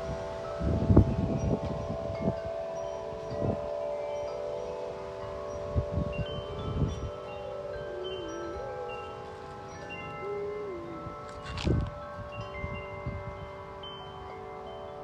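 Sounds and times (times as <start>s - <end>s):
tubular wind chimes ringing: 0.0s - 15.0s
wind buffeting microphone: 0.0s - 15.0s.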